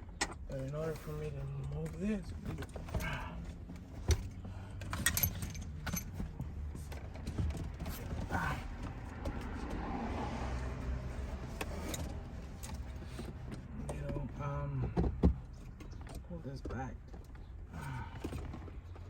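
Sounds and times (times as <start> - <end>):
clicks and knocks of car parts: 1.6 - 10.0, 11.5 - 19.0.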